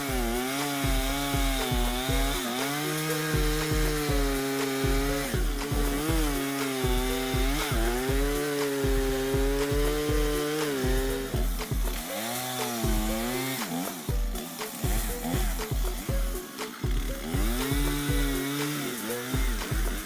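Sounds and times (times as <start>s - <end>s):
chainsaw cutting wood: 0.0s - 20.0s
music with thumping beat: 0.0s - 20.0s.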